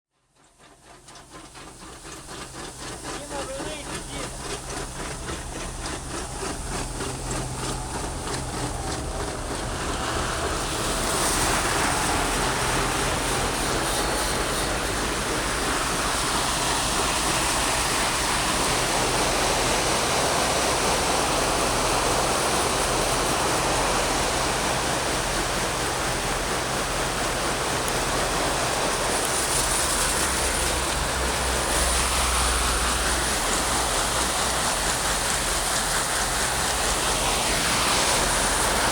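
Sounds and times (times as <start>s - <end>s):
tractor engine hum: 0.6s - 38.9s.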